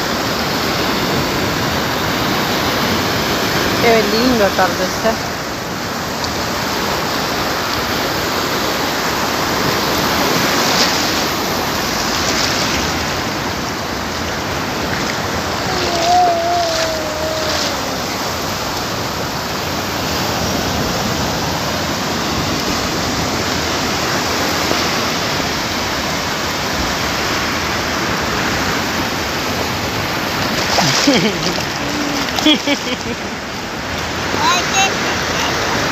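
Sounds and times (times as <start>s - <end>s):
waves washing up a sandy beach: 0.0s - 35.9s.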